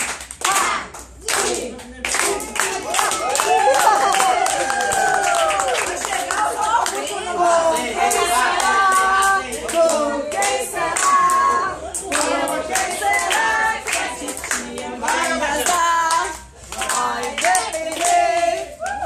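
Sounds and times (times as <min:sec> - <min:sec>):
group singing a celebration song: 0:00.0 - 0:19.0
people clapping in rhythm: 0:00.0 - 0:19.0.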